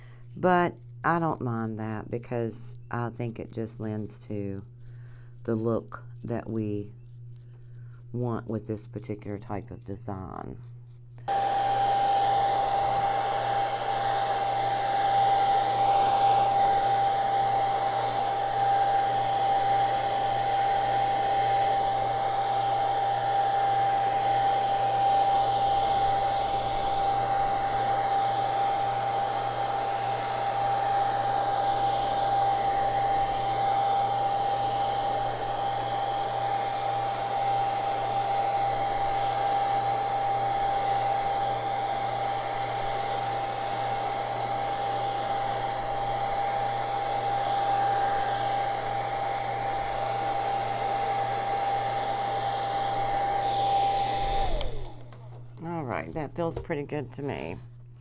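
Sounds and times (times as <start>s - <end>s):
hair dryer blowing: 11.2s - 58.0s.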